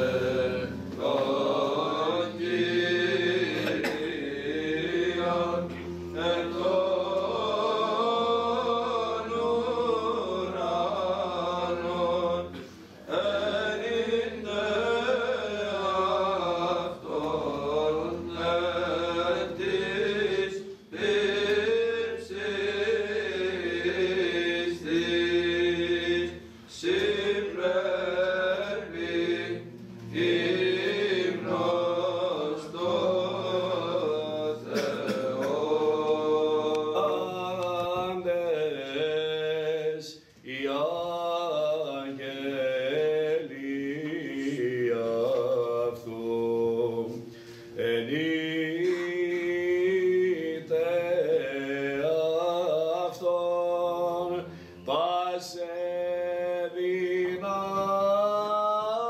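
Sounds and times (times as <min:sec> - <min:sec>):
low held vocal drone: 0:00.0 - 0:59.0
male choir chanting a hymn: 0:00.0 - 0:59.0.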